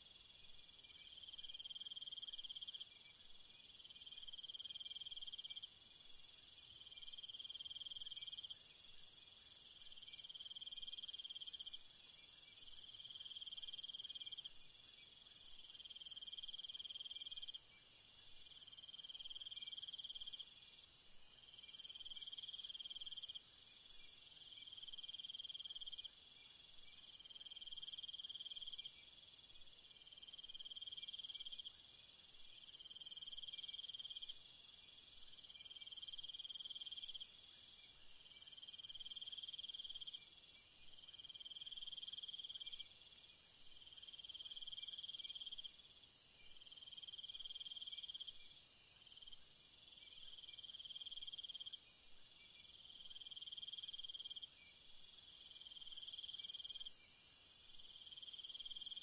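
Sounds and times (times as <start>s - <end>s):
crickets chirping: 0.0s - 59.0s
insect trill: 0.0s - 59.0s.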